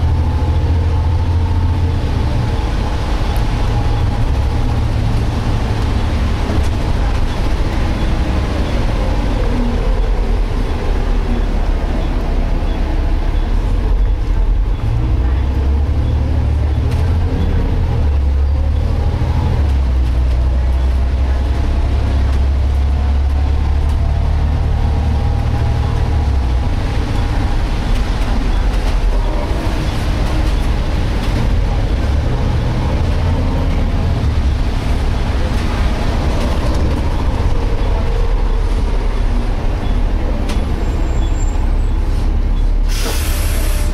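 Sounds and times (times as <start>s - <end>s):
bus engine and road noise: 0.0s - 43.9s.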